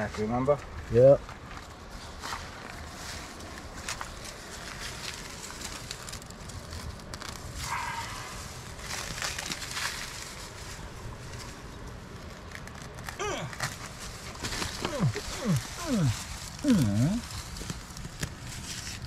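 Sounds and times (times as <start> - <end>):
roots torn from dry soil: 1.5 - 19.0.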